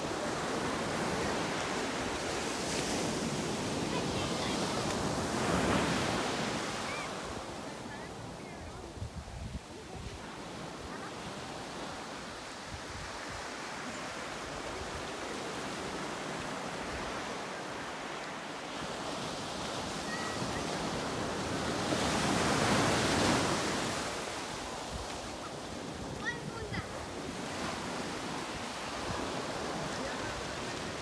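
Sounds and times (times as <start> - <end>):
ocean waves breaking on beach: 0.0 - 31.0.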